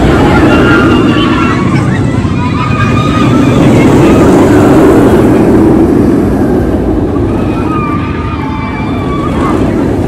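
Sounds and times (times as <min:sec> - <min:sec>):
roller coaster wheels rushing: 0:00.0 - 0:10.0.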